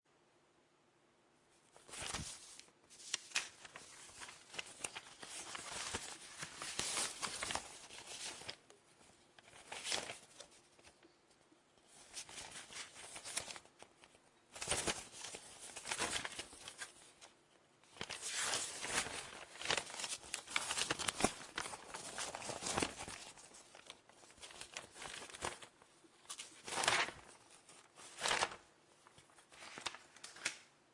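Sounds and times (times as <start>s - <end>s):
paper crinkling and rustling: 1.6s - 11.2s, 11.8s - 30.7s.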